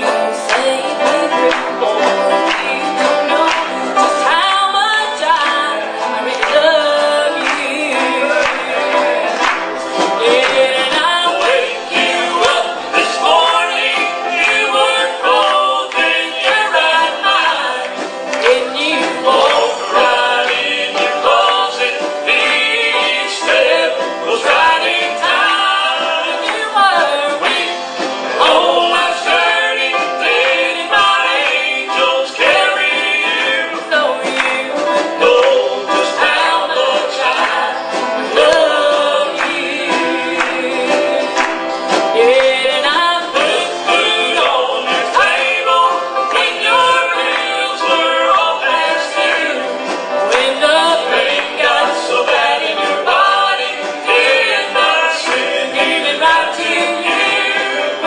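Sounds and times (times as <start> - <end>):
group singing gospel: 0.0 - 58.0.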